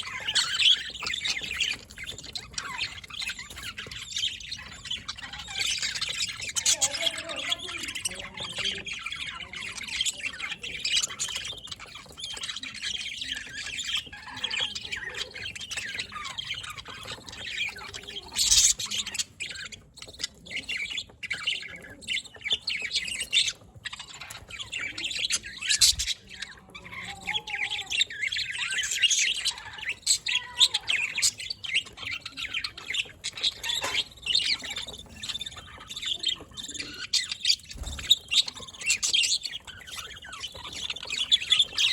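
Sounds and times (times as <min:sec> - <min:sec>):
budgerigars chattering and chirping: 0:00.0 - 0:41.9.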